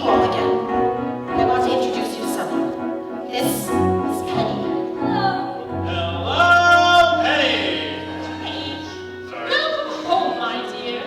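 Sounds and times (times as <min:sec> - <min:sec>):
instrumental accompaniment: 0:00.0 - 0:11.0
stage musical singing: 0:00.0 - 0:11.0.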